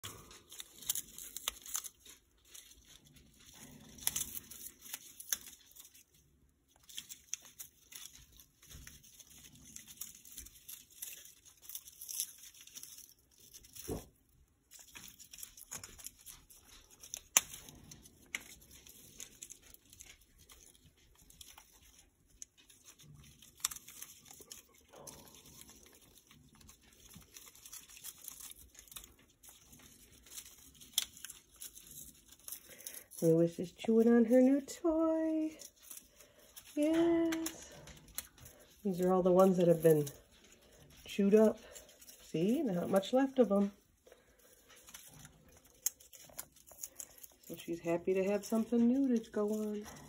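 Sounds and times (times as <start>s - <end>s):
parrot tearing cardboard: 0.0s - 50.0s.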